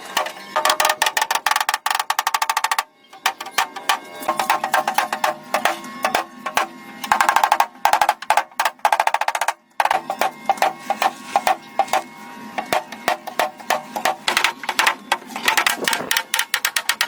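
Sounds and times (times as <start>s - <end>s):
sharp percussive taps and clicks: 0.2s - 12.0s, 12.6s - 17.0s.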